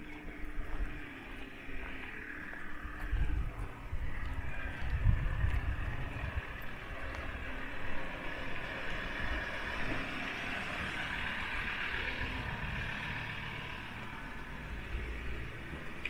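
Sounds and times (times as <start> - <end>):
low traffic rumble: 0.0 - 16.0
vehicle passing: 0.0 - 16.0.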